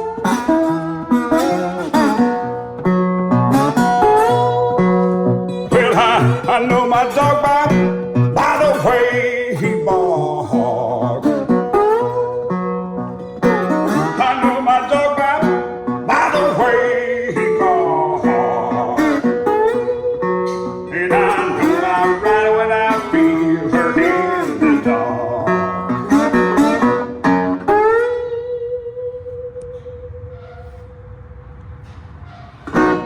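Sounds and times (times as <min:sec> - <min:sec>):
acoustic blues guitar: 0:00.0 - 0:33.0.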